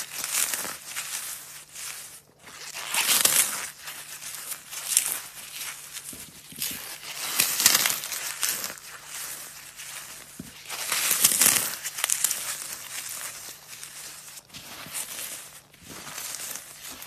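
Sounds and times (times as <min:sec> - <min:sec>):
floral foam crunching: 0:00.0 - 0:17.0.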